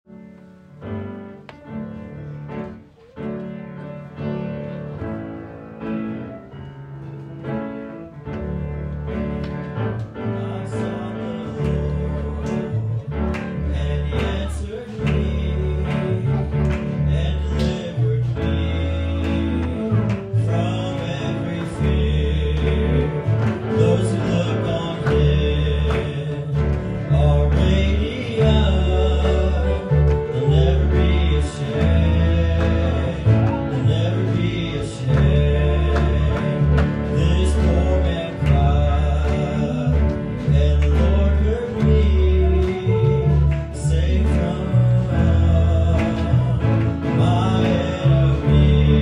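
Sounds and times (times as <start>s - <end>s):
guitar: 0.1s - 49.0s
live worship band playing: 0.1s - 49.0s
deep bass: 8.4s - 49.0s.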